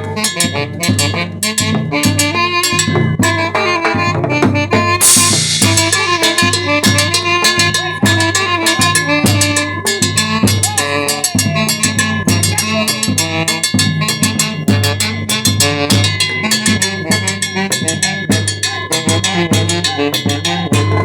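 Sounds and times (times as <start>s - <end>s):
drum kit beat: 0.0s - 21.0s
live band music: 0.0s - 21.0s.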